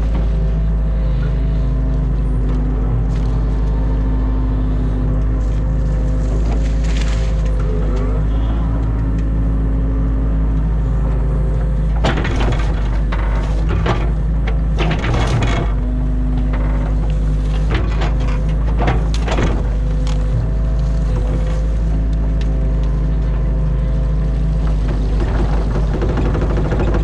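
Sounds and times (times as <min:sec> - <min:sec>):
branches cracking and crunching: 0:00.0 - 0:27.0
excavator engine and hydraulics: 0:00.0 - 0:27.0.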